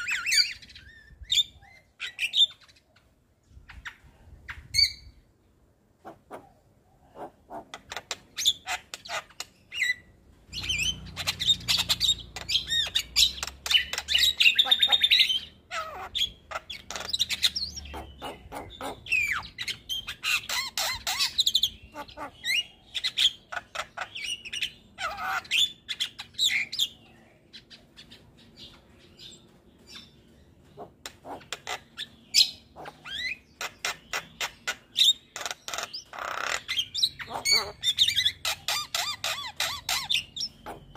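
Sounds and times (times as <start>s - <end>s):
myna bird singing: 0.0s - 40.9s.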